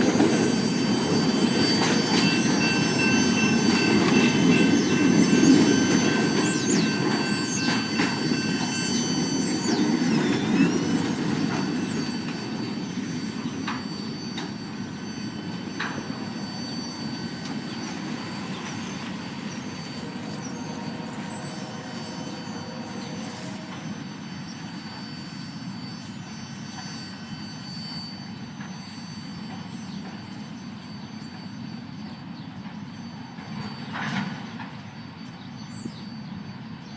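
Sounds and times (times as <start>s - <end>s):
train rumble: 0.0s - 36.9s
train wheels squealing on rail: 0.0s - 36.9s.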